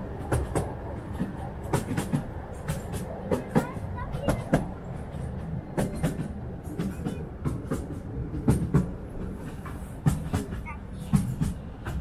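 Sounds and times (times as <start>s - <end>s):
wheels clacking over rail joints: 0.0s - 12.0s.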